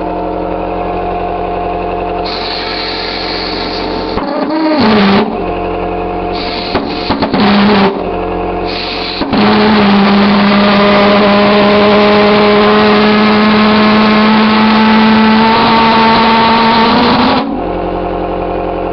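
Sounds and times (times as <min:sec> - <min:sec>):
pulse jet engine running: 0:00.0 - 0:18.9.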